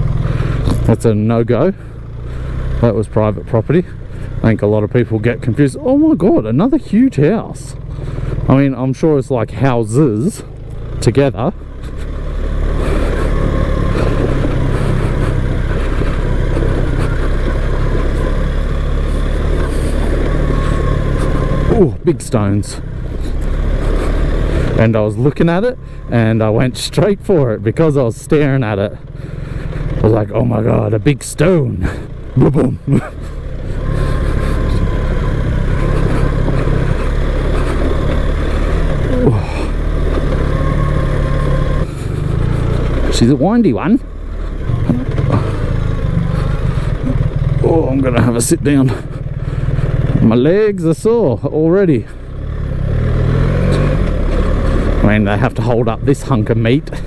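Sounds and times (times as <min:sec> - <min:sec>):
motorcycle engine running: 0:00.0 - 0:57.0
tyres on gravel: 0:00.0 - 0:57.0.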